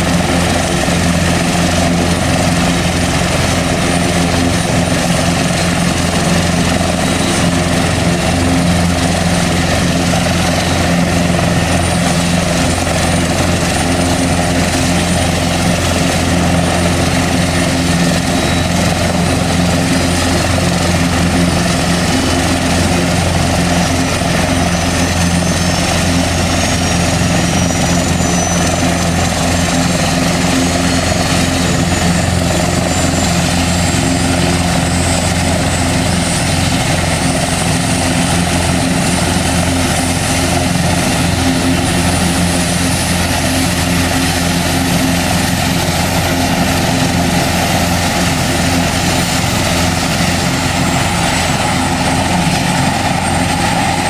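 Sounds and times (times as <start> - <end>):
helicopter starting up: 0.0 - 54.0
high turbine whine: 0.0 - 54.0.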